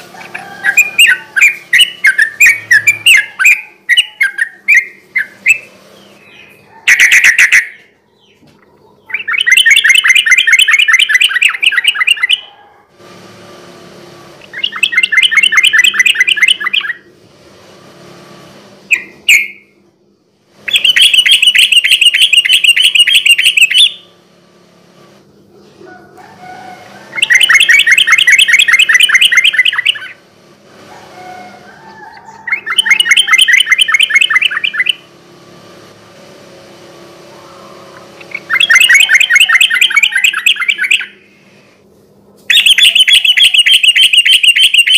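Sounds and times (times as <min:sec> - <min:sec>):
bird singing rolling trill: 0:00.0 - 0:12.8, 0:13.8 - 0:17.3, 0:18.0 - 0:41.5, 0:42.5 - 0:44.9.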